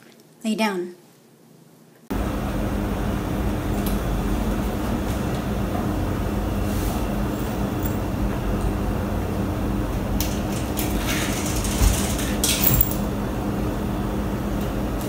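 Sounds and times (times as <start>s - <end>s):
loud mechanical hum with rushing: 2.1s - 15.0s.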